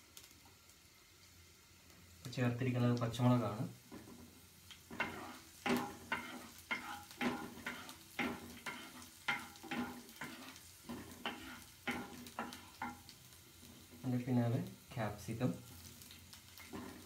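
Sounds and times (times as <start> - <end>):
food sizzling in oil: 0.0 - 17.0
stirring in frying pan: 2.4 - 17.0.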